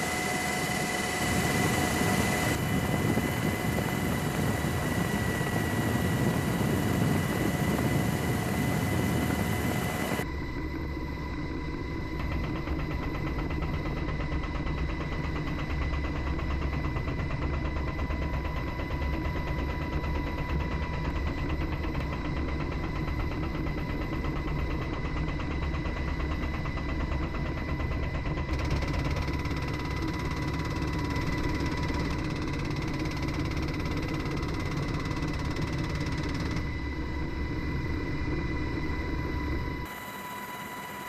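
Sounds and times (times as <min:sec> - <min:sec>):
helicopter rotor and turbine: 0:00.0 - 0:41.0.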